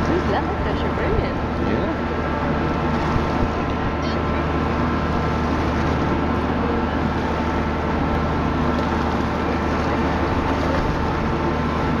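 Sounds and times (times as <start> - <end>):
boat machinery humming: 0.0 - 12.0
water churning and splashing: 0.0 - 12.0.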